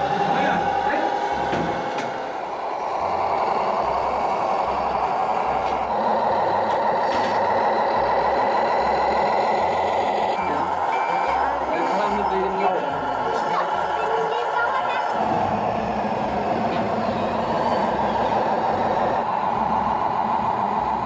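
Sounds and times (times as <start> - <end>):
toy truck engine running: 0.0 - 21.0.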